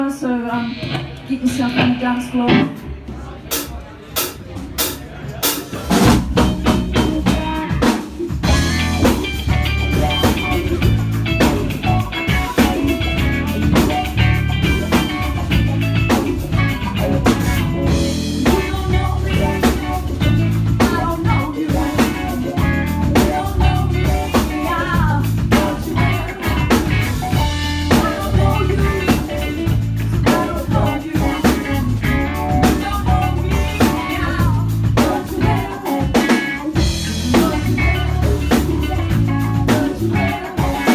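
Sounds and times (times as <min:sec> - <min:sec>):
live rock band playing: 0:00.5 - 0:40.9.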